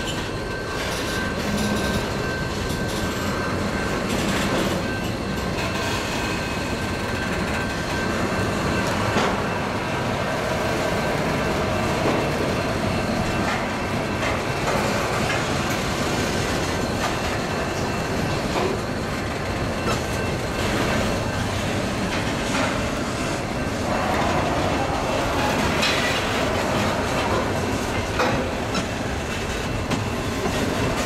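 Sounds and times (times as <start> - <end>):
steel wheels rumbling: 0.0 - 31.0.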